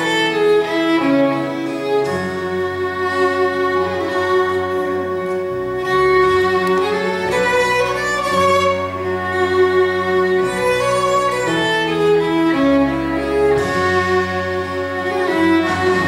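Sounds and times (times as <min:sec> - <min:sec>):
bowed violin melody: 0:00.0 - 0:16.0
low held notes: 0:00.0 - 0:16.0.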